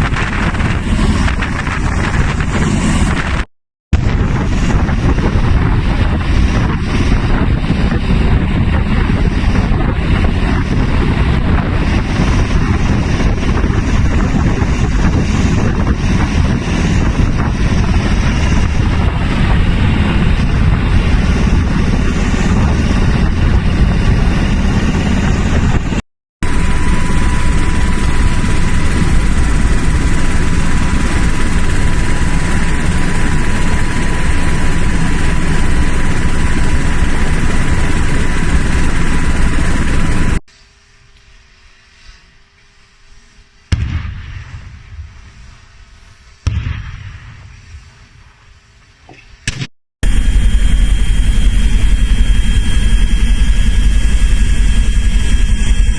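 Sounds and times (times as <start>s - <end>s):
helicopter rotor and engine: 0.0s - 40.4s, 49.6s - 55.9s
high whine: 0.0s - 41.4s, 49.1s - 55.9s.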